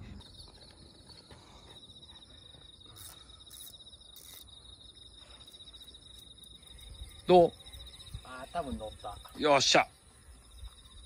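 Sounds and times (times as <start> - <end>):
insect trilling: 0.2 - 11.0.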